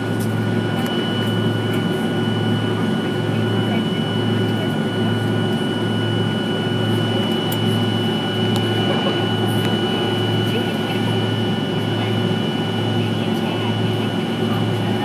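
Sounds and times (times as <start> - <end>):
jet cabin low hum: 0.0 - 15.0.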